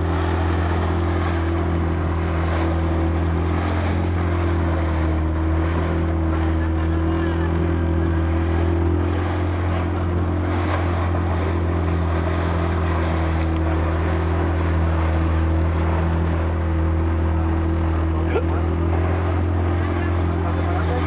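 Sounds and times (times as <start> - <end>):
boat motor humming: 0.0 - 21.0
water rushing past hull: 0.0 - 21.0.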